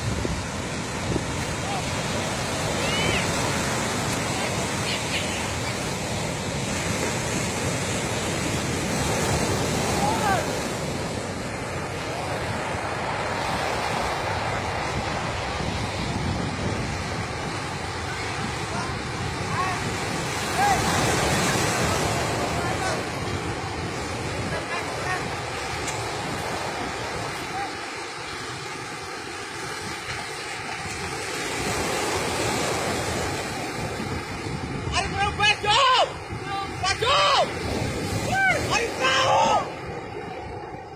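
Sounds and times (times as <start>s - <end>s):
ocean surf rushing: 0.0s - 40.9s
wind buffeting microphone: 0.0s - 40.9s.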